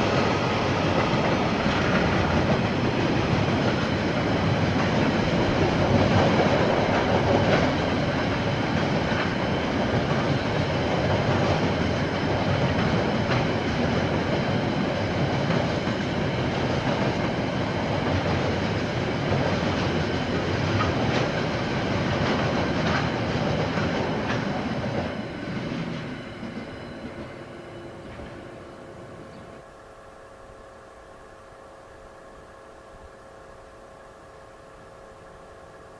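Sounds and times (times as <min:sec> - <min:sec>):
train wagons rumbling past: 0:00.0 - 0:30.0
faint high wheel whine: 0:00.0 - 0:35.9.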